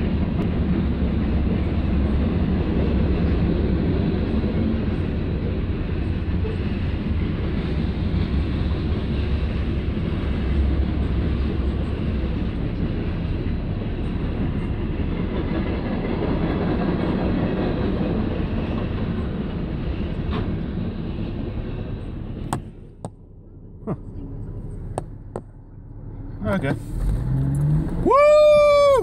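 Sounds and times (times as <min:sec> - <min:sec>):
train wheels rumbling on rails: 0:00.0 - 0:23.3, 0:26.2 - 0:29.0.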